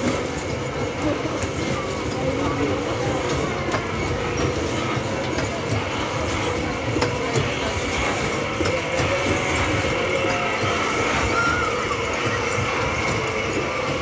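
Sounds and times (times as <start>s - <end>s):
carousel clicking: 0.0s - 14.0s
carousel mechanical rumble: 0.0s - 14.0s.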